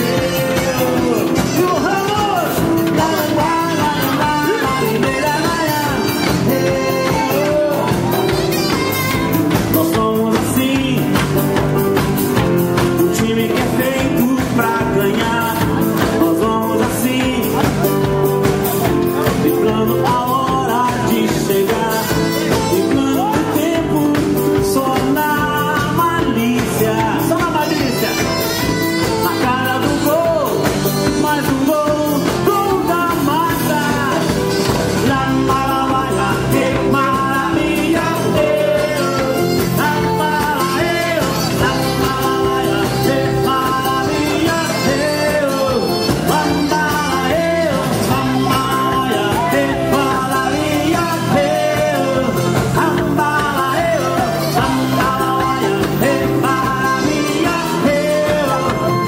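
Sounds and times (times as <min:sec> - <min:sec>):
hand drum percussion: 0:00.0 - 0:59.0
keyboard: 0:00.0 - 0:59.0
man singing into microphone: 0:00.0 - 0:59.0.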